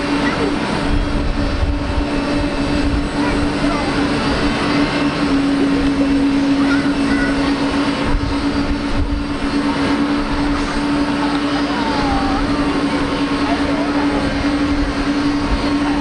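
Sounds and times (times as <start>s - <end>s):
jet engine droning: 0.0s - 16.0s.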